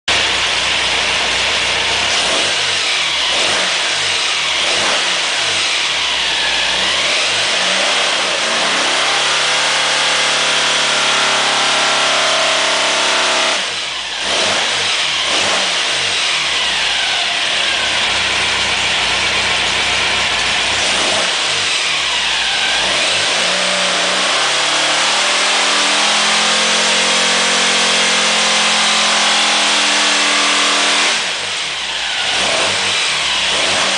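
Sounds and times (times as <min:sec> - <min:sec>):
engine at full throttle: 0:00.0 - 0:33.9.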